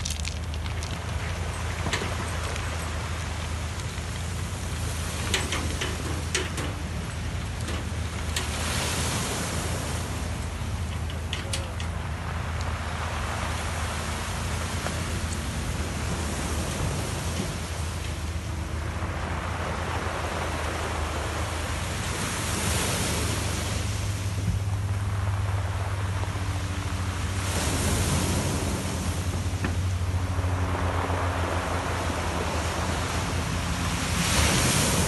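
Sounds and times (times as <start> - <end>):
waves on pebble shore: 0.0 - 35.0
wind rumbling on microphone: 0.0 - 35.0.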